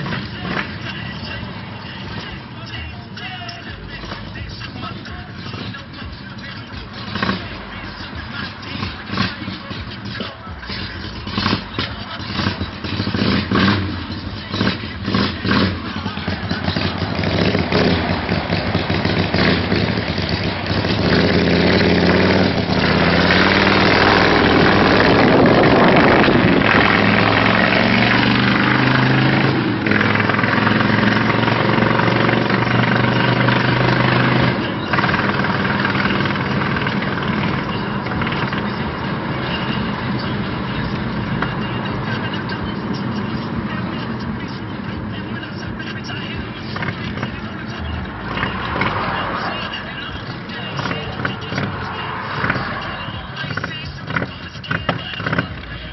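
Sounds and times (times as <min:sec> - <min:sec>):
engine starting and revving: 0:07.1 - 0:07.6, 0:08.7 - 0:44.5, 0:46.7 - 0:55.7.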